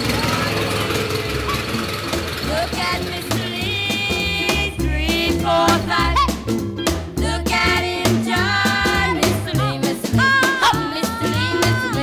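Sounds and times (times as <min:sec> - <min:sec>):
band playing: 0:00.0 - 0:12.0
steady drum beat: 0:00.0 - 0:12.0.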